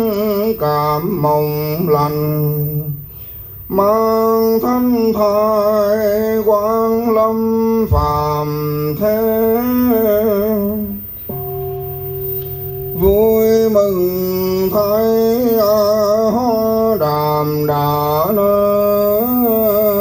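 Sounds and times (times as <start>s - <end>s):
man chanting: 0.0s - 3.0s, 3.7s - 11.1s, 12.9s - 20.0s.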